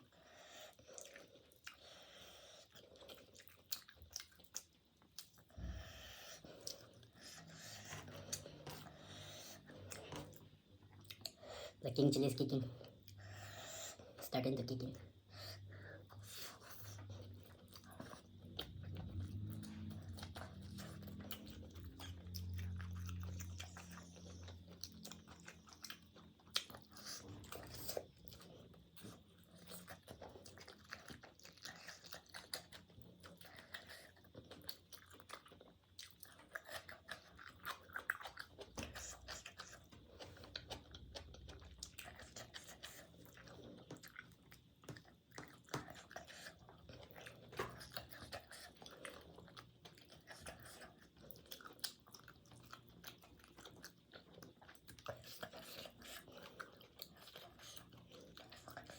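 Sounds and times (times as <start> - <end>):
person chewing crunchy food: 0.0 - 14.2, 15.1 - 58.9.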